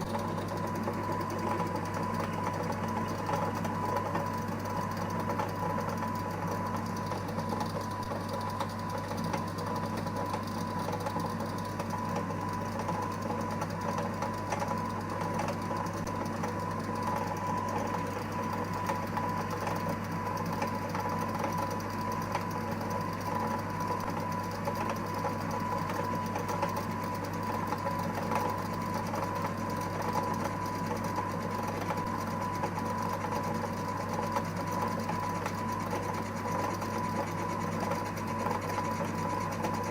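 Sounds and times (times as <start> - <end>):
lathe humming and whining: 0.0 - 39.9.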